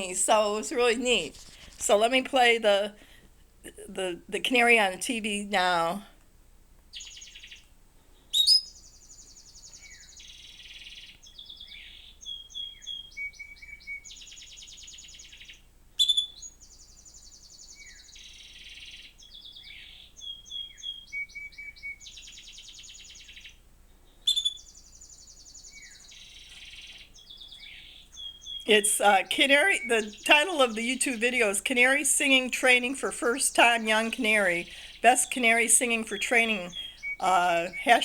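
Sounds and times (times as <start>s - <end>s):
canary song through speakers: 0.0s - 2.9s, 6.9s - 38.0s.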